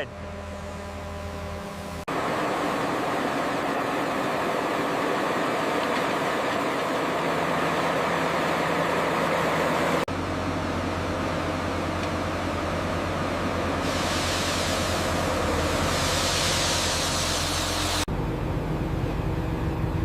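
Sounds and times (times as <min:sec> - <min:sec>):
heavy machinery engines running: 0:00.0 - 0:20.0.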